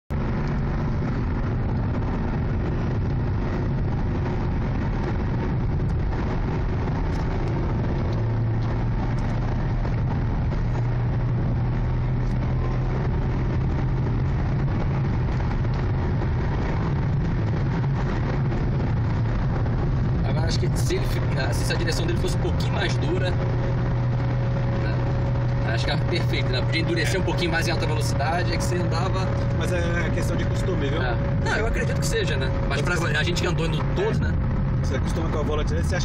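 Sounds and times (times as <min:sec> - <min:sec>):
car engine drone: 0:00.1 - 0:36.0
tyre and road noise: 0:00.1 - 0:36.0.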